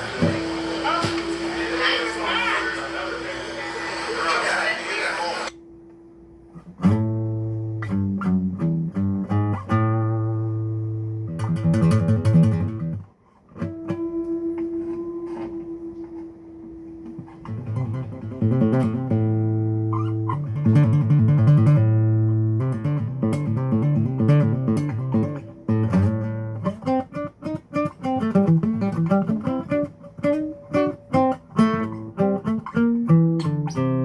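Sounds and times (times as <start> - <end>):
guitar playing: 0.0 - 34.0.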